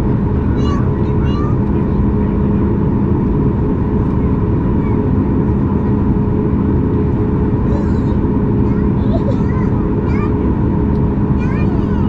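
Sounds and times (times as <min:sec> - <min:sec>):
jet engines at takeoff thrust: 0:00.0 - 0:12.0.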